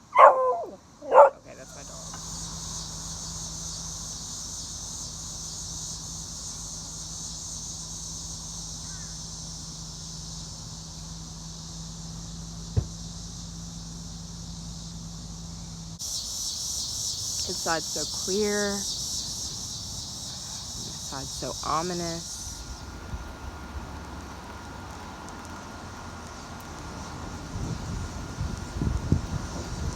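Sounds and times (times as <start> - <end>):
crickets chirping: 0.0 - 29.9.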